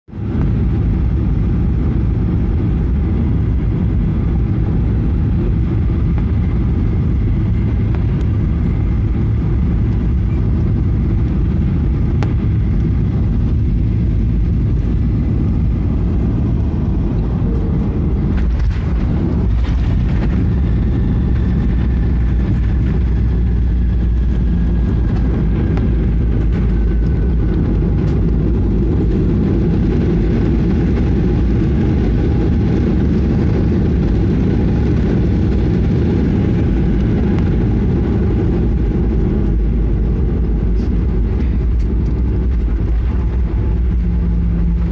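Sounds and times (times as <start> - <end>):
jet engines rumbling: 0.1 - 44.9.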